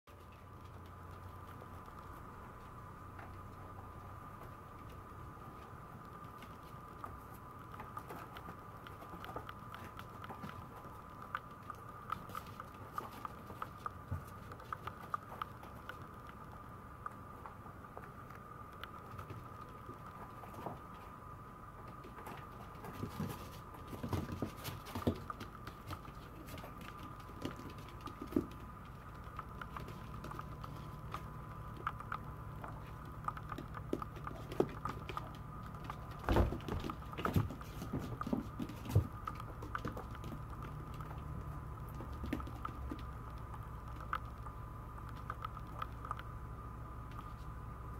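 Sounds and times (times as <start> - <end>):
puppy paws clicking on tiles: 0.1 - 46.5
faint steady tone and hum: 0.1 - 47.9.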